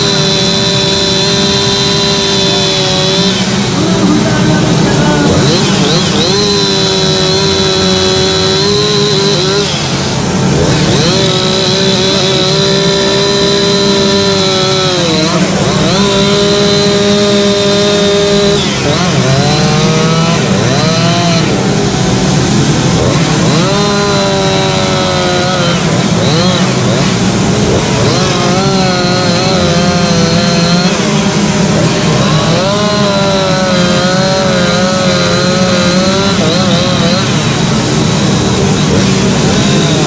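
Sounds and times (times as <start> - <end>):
chainsaw carving wood: 0.0 - 40.0.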